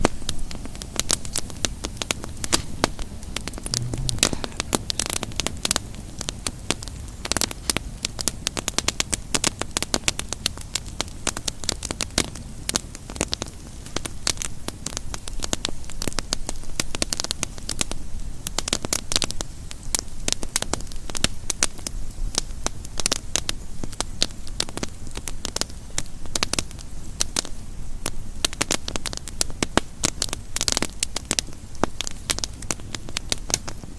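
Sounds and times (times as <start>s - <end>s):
campfire crackling: 0.0s - 33.9s
steady low hiss: 0.0s - 33.9s.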